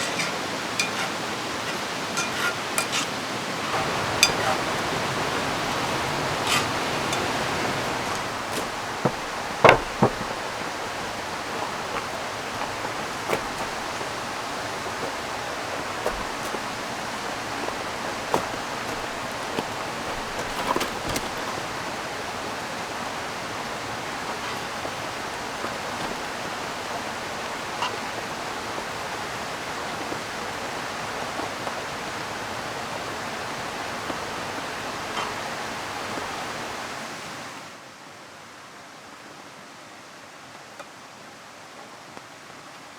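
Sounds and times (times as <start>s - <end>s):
river rushing: 0.0s - 38.0s
rain: 0.0s - 42.9s.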